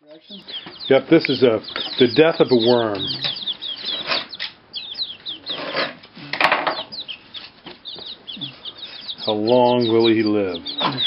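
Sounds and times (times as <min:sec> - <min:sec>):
chicks cheeping: 0:00.0 - 0:11.0.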